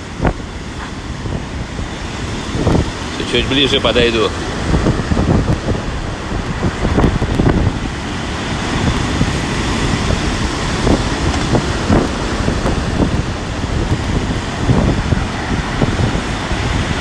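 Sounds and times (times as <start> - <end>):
storm surf rushing: 0.0 - 17.0
wind buffeting microphone: 0.0 - 17.0.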